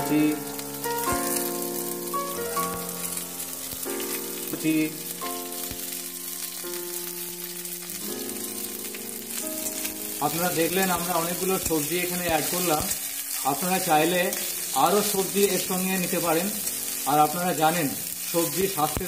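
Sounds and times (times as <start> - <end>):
slow background music: 0.0 - 19.0
vegetables sizzling in hot oil: 0.0 - 19.0.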